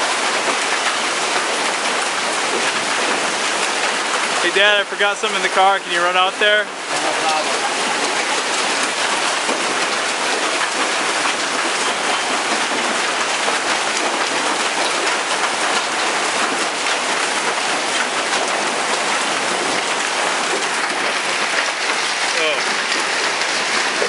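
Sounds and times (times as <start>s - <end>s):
hail and rain pelting down: 0.0s - 24.0s.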